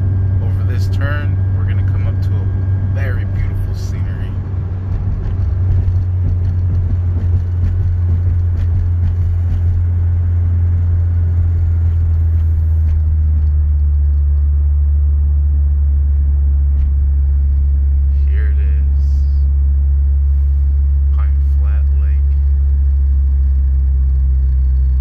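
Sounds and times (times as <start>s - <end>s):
car engine and road noise drone: 0.0s - 25.0s.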